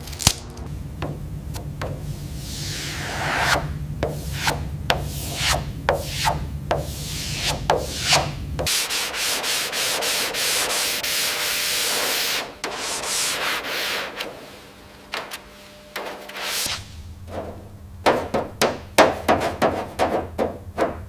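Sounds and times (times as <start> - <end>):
hand sanding rubbing strokes: 1.8 - 21.0.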